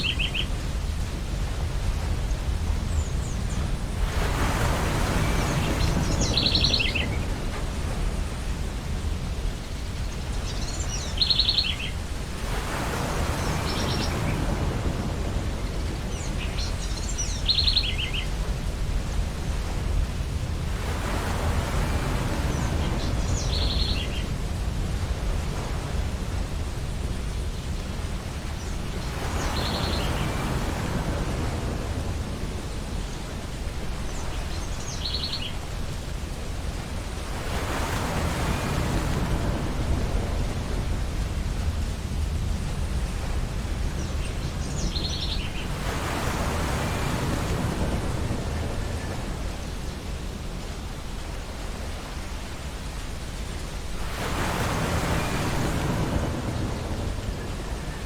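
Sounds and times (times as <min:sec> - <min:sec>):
ocean surf washing onto beach: 0:00.0 - 0:58.0.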